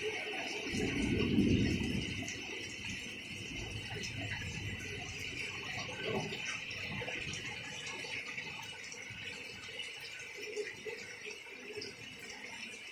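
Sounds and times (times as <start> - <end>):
heavy rain splashing into water: 0.0 - 12.9.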